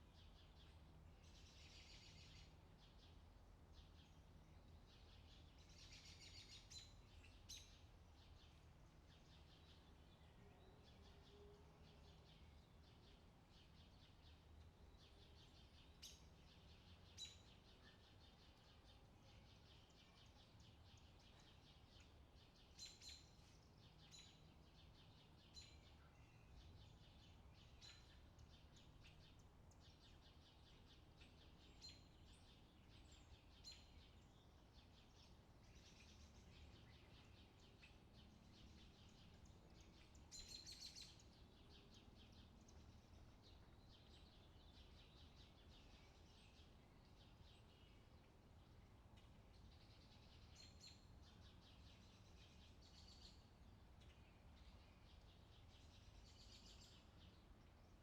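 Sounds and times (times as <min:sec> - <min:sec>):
faint bird chirps: 0:00.0 - 0:58.0
low outdoor background: 0:00.0 - 0:58.0.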